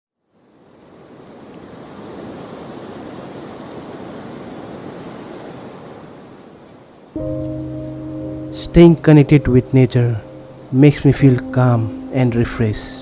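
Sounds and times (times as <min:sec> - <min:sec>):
river water rushing: 0:00.3 - 0:13.0.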